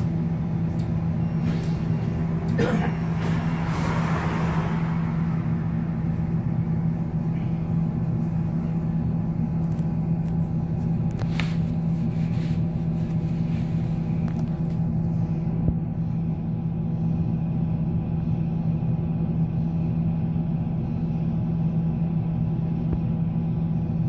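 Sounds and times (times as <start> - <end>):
tram low hum: 0.0 - 24.0
wheels rumbling on rails: 0.0 - 24.0.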